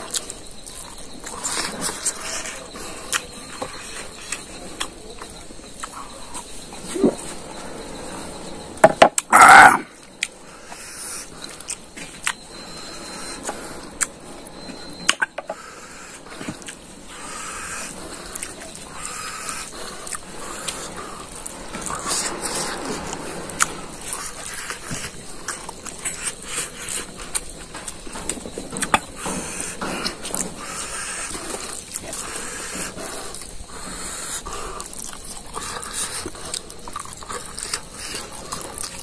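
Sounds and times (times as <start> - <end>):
person chewing and lip-smacking: 0.0 - 7.4, 9.1 - 12.4, 16.2 - 34.2, 34.8 - 39.0.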